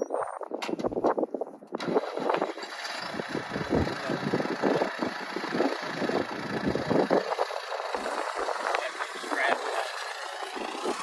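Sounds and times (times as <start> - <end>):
vehicle engine running unevenly: 1.8 - 11.0.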